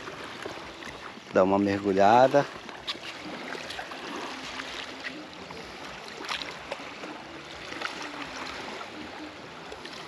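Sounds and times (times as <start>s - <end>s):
light water splashes: 0.0s - 10.0s
water lapping at shore: 0.0s - 10.0s.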